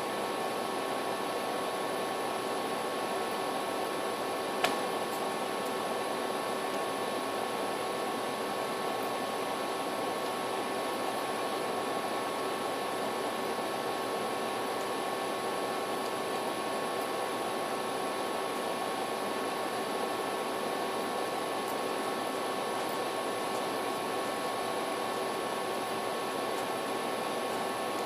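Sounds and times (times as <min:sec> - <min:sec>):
background hiss and hum: 0:00.0 - 0:28.0.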